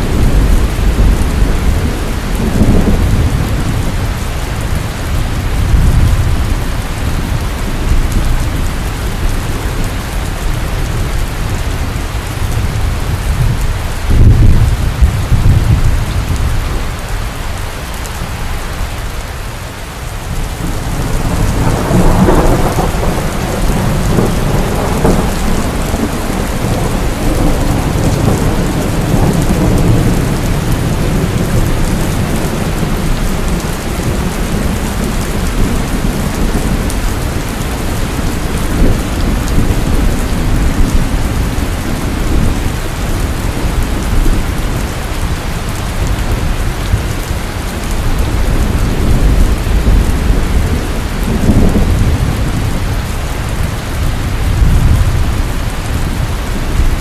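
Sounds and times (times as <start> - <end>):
heavy rain pouring: 0.0 - 57.0
thunder rumbling: 0.0 - 57.0.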